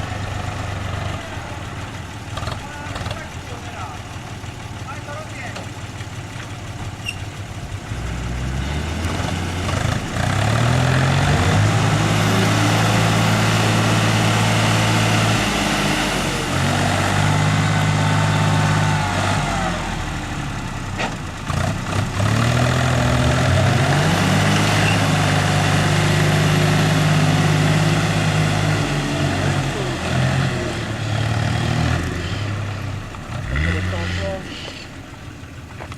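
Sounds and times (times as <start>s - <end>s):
off-road vehicle engine revving: 0.0s - 35.9s.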